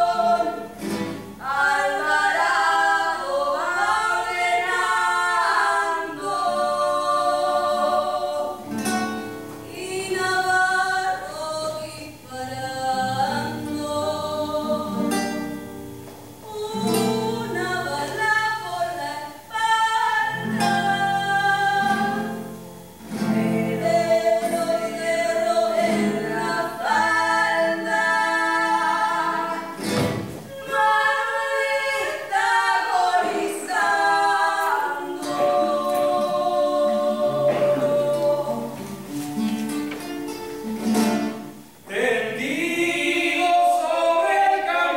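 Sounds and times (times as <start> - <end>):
acoustic guitar: 0.0 - 44.9
people singing together: 0.0 - 44.9.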